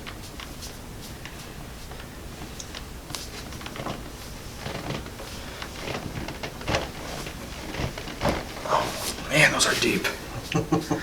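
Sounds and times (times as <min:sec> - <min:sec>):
faint rustling: 0:00.0 - 0:10.6.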